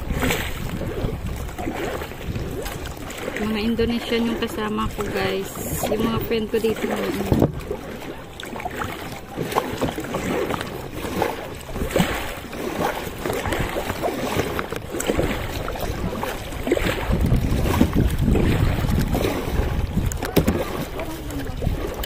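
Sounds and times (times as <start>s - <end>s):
paddles splashing in water: 0.0s - 22.0s
wind buffeting microphone: 0.0s - 22.0s.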